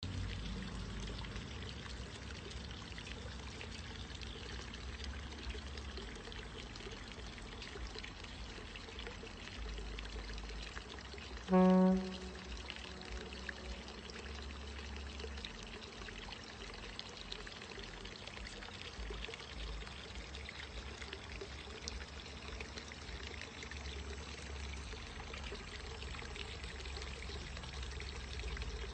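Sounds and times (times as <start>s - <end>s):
running water rushing: 0.1s - 28.9s.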